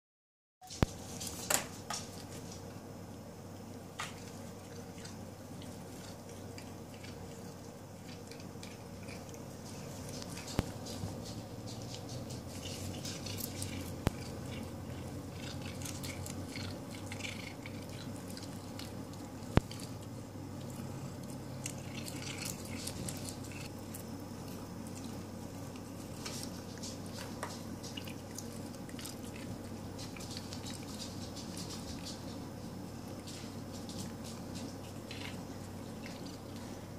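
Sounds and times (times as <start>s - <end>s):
cats chewing grass: 0.7s - 36.9s.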